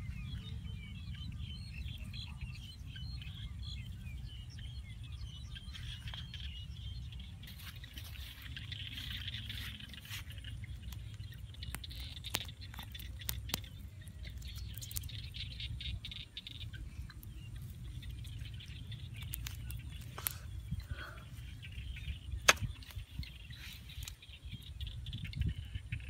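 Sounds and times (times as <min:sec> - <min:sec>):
faint chirping: 0:00.0 - 0:26.0
low steady rumble: 0:00.0 - 0:26.0.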